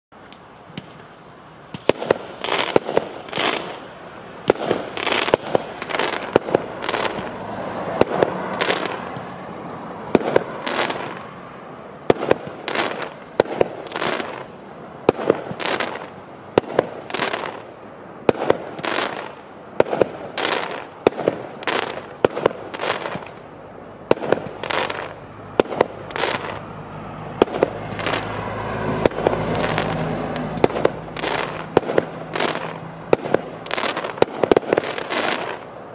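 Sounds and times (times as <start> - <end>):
firework crackling: 0.2 - 35.9
firework bangs: 0.7 - 26.7, 27.3 - 35.8.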